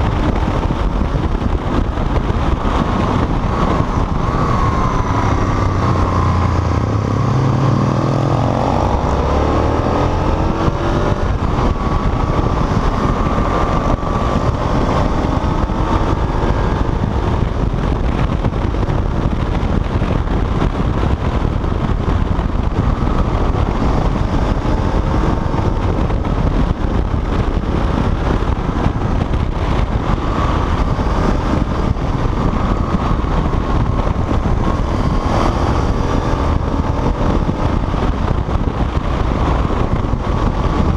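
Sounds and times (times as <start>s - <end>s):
motorcycle engine revving: 0.0s - 40.9s
wind noise on microphone: 0.0s - 40.9s.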